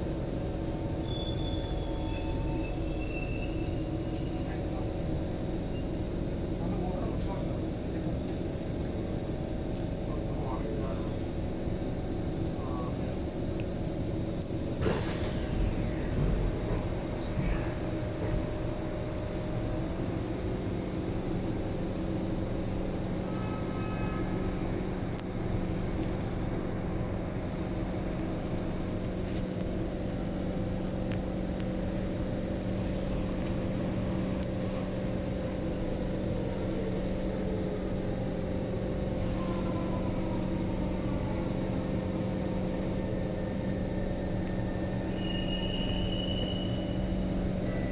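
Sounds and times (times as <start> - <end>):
train equipment hum: 0.0 - 47.9.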